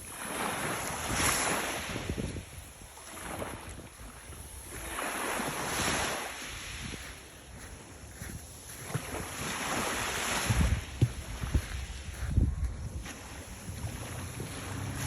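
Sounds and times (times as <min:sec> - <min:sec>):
small sea waves washing ashore: 0:00.0 - 0:15.0
wind rumbling on microphone: 0:00.0 - 0:15.0.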